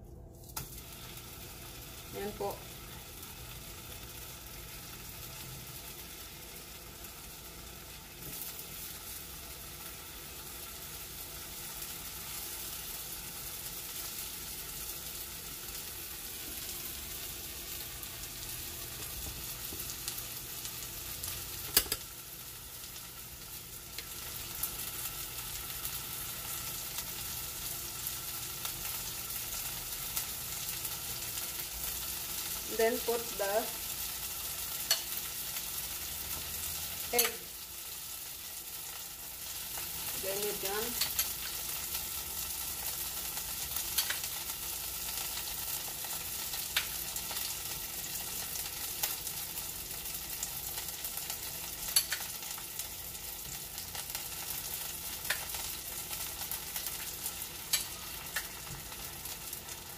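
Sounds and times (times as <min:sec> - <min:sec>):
tomatoes sizzling in a pan: 0:00.0 - 0:59.9.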